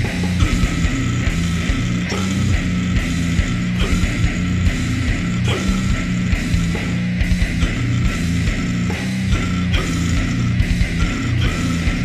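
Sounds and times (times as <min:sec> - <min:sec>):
distorted electric guitar riffs: 0:00.0 - 0:12.0
drum kit with rapid kick drum: 0:00.0 - 0:12.0.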